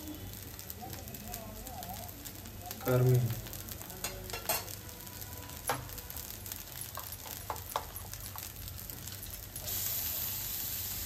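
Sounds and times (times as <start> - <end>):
batter sizzling on hot iron: 0.0 - 11.0.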